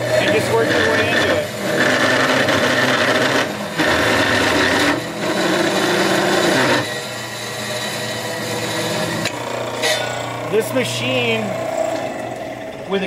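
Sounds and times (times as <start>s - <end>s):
saw cutting metal tubing: 0.0s - 13.0s
saw motor humming: 0.0s - 13.0s.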